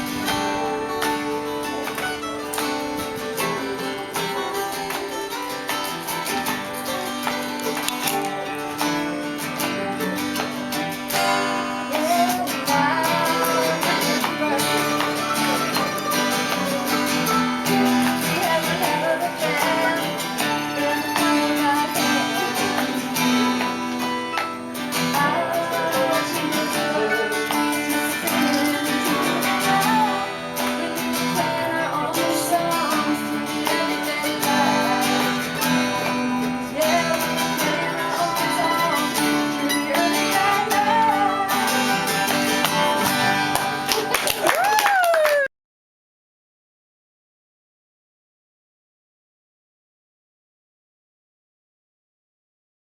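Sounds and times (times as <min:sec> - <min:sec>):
acoustic guitar strumming country song: 0:00.0 - 0:44.5.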